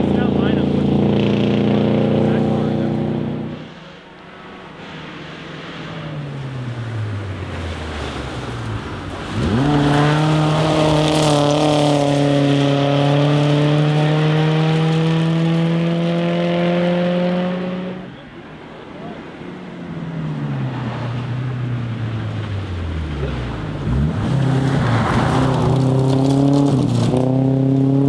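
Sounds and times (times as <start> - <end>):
rally car engine revving past: 0.0 - 18.2, 20.2 - 28.0.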